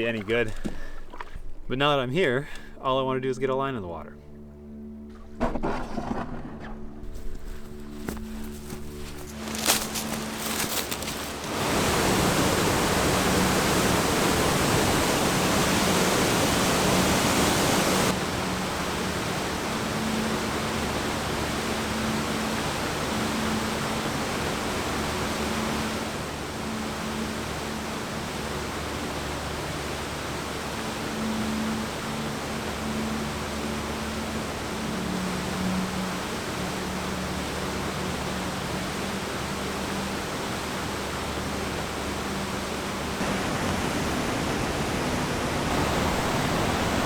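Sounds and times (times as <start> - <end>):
waterfall rushing: 9.3 - 47.0.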